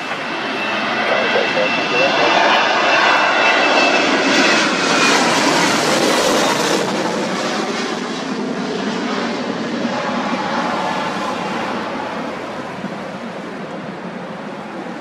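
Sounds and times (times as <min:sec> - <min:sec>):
high jet whine: 0:00.0 - 0:15.0
jet engine roar: 0:00.0 - 0:15.0.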